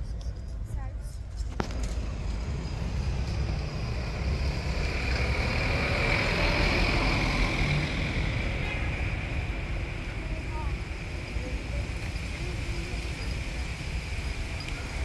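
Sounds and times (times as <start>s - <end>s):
motor vehicle passing: 1.6s - 15.0s.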